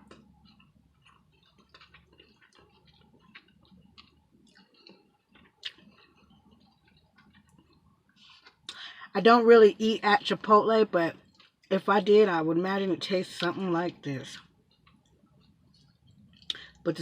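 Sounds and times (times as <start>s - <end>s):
chewing and wet mouth clicks: 0.0s - 8.9s, 10.1s - 12.2s, 13.3s - 17.0s.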